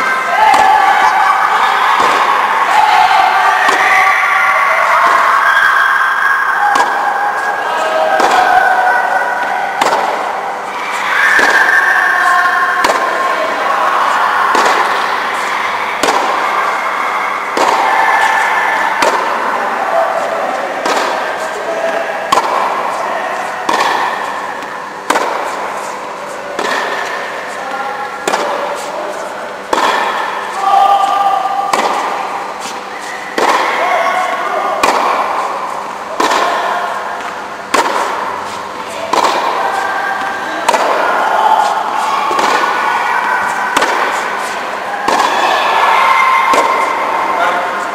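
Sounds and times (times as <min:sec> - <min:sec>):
tennis balls struck by rackets: 0:00.4 - 0:03.9, 0:05.0 - 0:10.4, 0:11.0 - 0:47.9.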